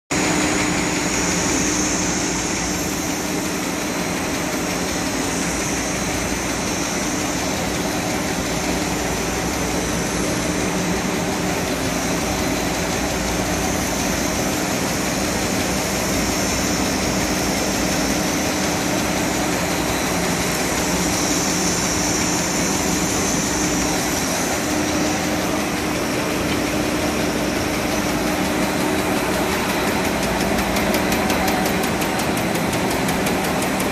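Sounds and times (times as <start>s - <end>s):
paper cutting machine droning: 0.2s - 33.9s.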